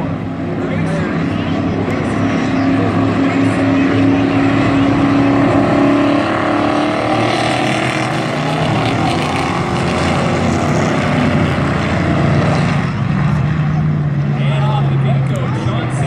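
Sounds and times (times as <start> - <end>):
race truck engines: 0.0 - 16.0.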